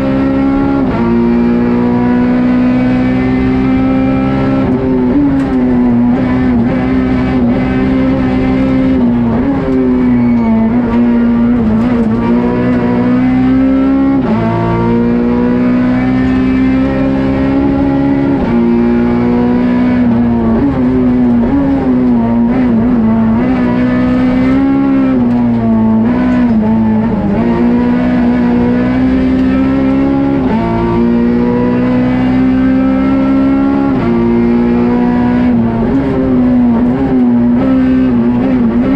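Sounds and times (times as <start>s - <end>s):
rally car engine at high revs: 0.0s - 38.9s.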